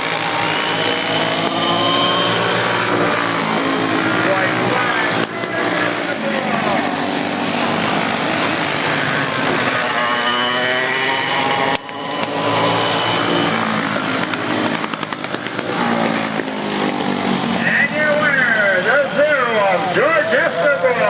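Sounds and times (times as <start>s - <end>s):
racing kart engines: 0.0s - 21.0s.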